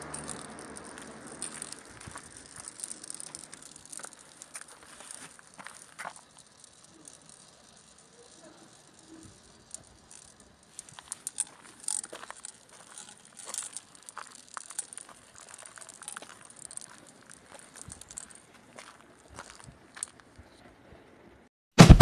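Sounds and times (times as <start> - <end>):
marbles rolling and clicking on stone: 0.0 - 20.4.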